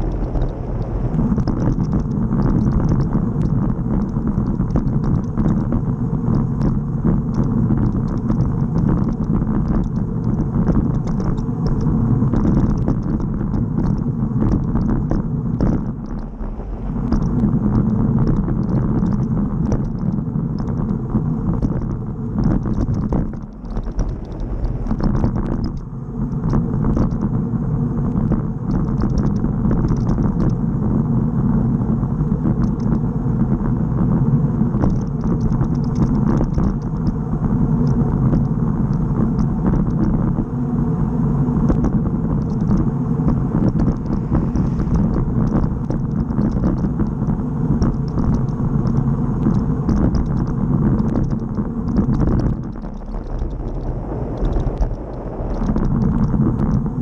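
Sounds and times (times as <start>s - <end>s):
bicycle tyres rumbling on asphalt: 0.0s - 57.0s
wind buffeting microphone: 0.0s - 57.0s.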